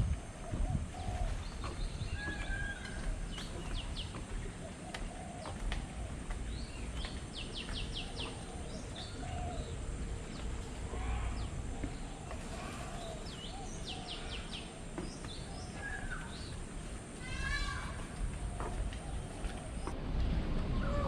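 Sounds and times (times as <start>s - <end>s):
steady low rumble: 0.0s - 5.2s, 5.8s - 21.0s
lower repeated bird calls: 0.3s - 19.9s
birds chirping: 0.3s - 20.0s.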